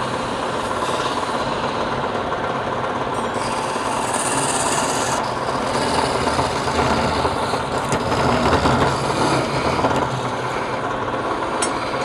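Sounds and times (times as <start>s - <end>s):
lathe motor hum: 0.0s - 12.0s
wood lathe scraping: 0.0s - 12.0s.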